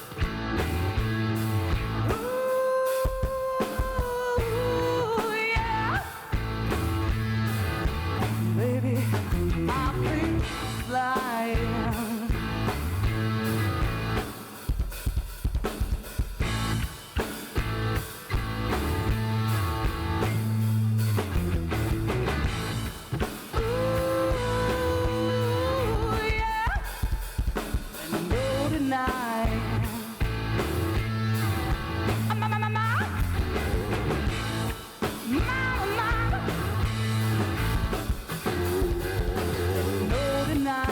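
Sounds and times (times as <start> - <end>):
bass guitar: 0.0 - 2.4, 3.1 - 15.0, 16.2 - 40.9
drum kit beat: 0.0 - 40.9.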